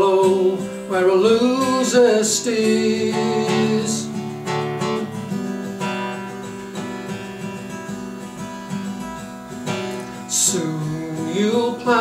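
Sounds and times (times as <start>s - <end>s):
acoustic guitar strummed softly: 0.0s - 12.0s.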